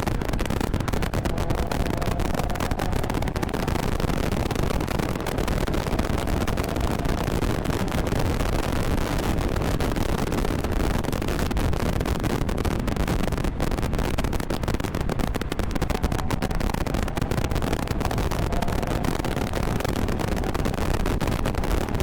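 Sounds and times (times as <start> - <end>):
car engine roaring at speed: 0.0 - 22.0
wind buffeting microphone: 0.0 - 22.0.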